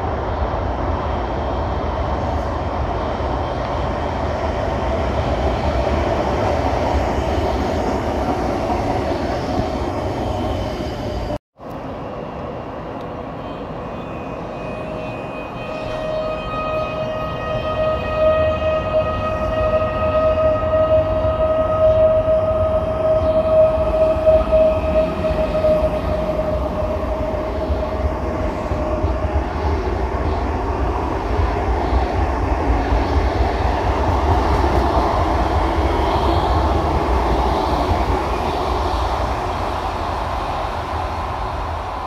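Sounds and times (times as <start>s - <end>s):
electric train high whine: 0.0s - 42.0s
train carriages rumbling by: 0.0s - 42.0s.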